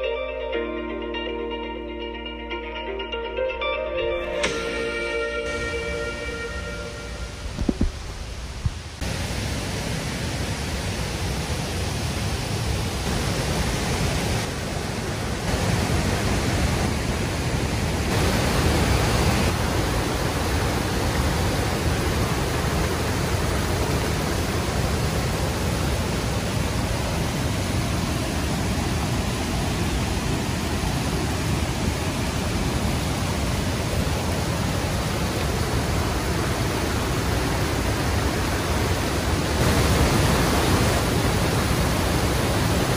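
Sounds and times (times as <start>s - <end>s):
water rushing over rocks: 5.5s - 42.9s.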